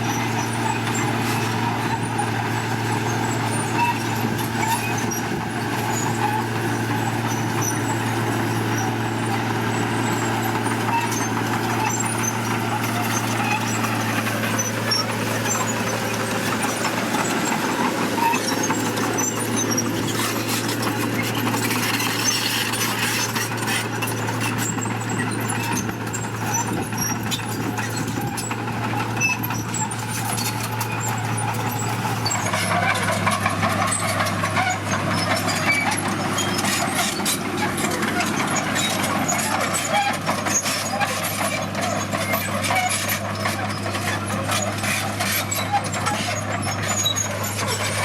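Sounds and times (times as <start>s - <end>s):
diesel machinery engine drone: 0.0s - 48.0s.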